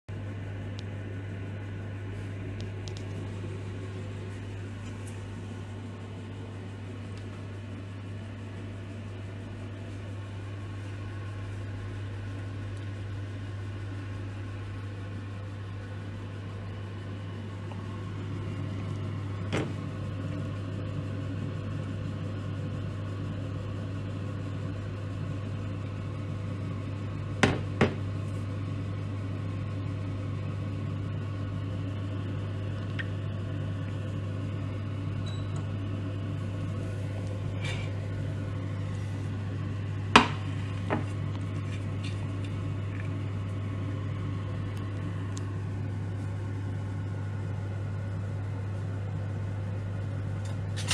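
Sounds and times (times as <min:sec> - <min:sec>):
kitchen appliance hum: 0:00.1 - 0:50.9.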